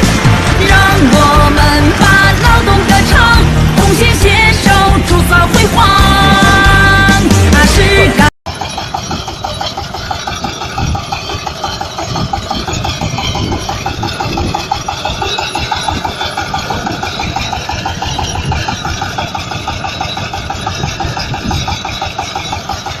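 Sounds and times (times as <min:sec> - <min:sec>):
fast pulsing clatter: 0:00.0 - 0:23.0
tractor engine running: 0:00.0 - 0:23.0.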